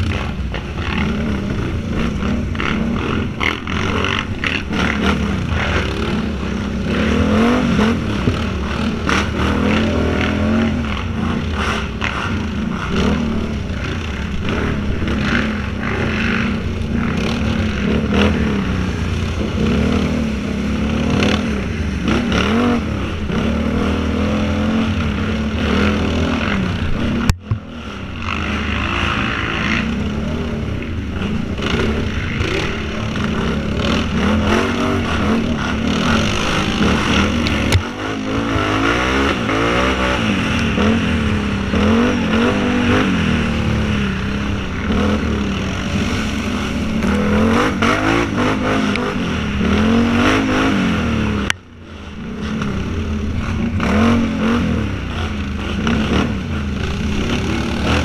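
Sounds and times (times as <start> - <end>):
quad engine revving under load: 0.0 - 58.0.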